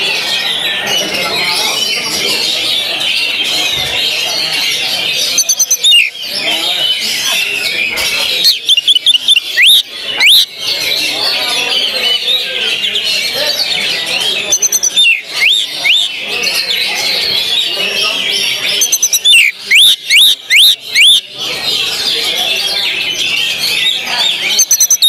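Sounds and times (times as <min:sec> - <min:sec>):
chorus of songbirds: 0:00.0 - 0:25.0
songbird rapid notes and whistles: 0:03.1 - 0:21.4, 0:22.1 - 0:25.0.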